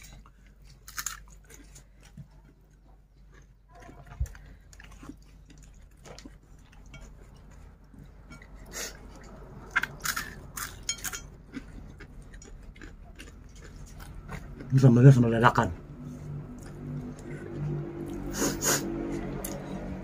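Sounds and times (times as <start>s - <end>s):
chewing and crunching: 0.0s - 20.0s.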